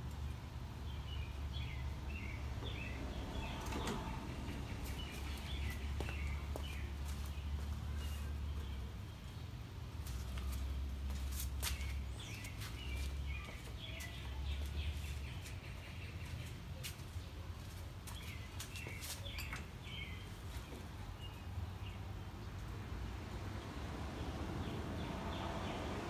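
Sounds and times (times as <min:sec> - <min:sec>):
small birds chirping: 0:00.1 - 0:22.8.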